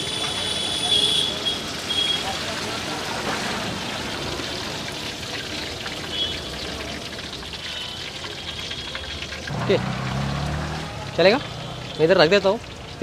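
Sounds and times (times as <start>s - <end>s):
fish sizzling in hot oil: 0.0s - 13.0s
oil dripping into pan: 0.1s - 13.0s.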